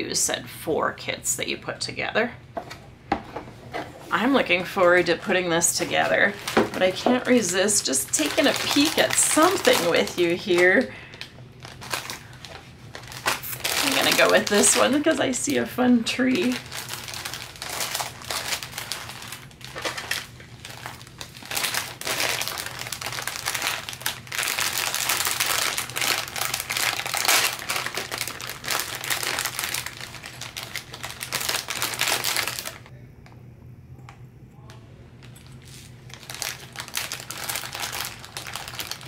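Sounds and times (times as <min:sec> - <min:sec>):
plastic bags crinkling: 0:04.1 - 0:32.9, 0:35.2 - 0:39.0.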